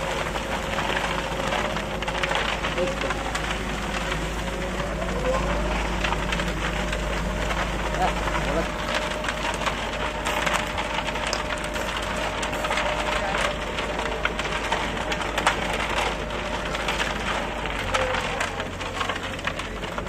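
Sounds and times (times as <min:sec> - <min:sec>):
mixer engine humming: 0:00.0 - 0:20.0
wet concrete rattling down chute: 0:00.0 - 0:20.0.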